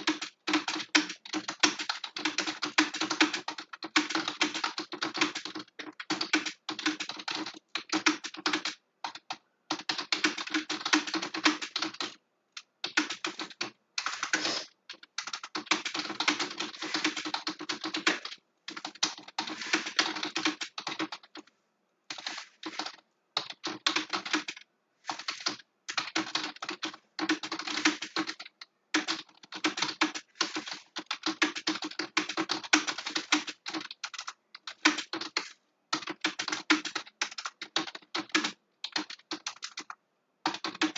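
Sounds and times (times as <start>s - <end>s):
fast typing on keyboard: 0.0s - 21.5s, 22.1s - 40.9s.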